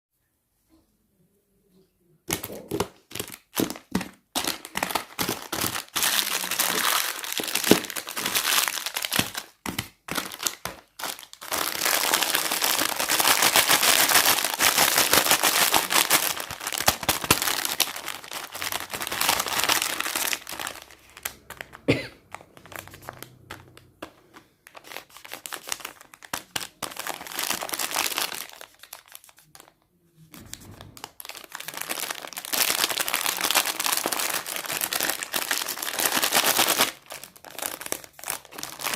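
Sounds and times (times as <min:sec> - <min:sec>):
packaging crinkling: 0:02.3 - 0:29.7, 0:30.4 - 0:38.9.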